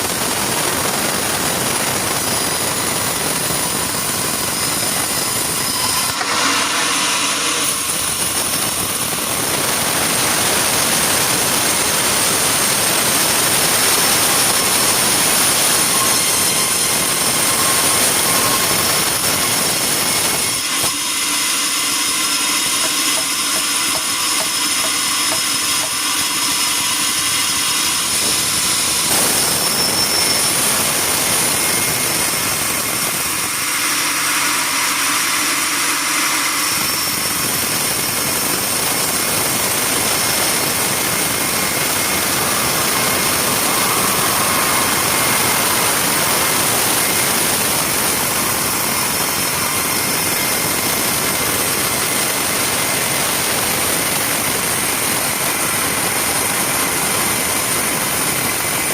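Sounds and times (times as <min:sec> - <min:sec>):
sawmill machinery running: 0:00.0 - 0:58.9.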